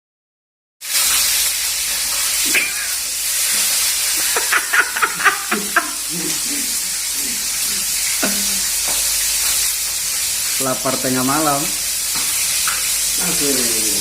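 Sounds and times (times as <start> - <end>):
fish sizzling in hot oil: 0.8 - 14.0
oil popping and crackling: 0.8 - 14.0.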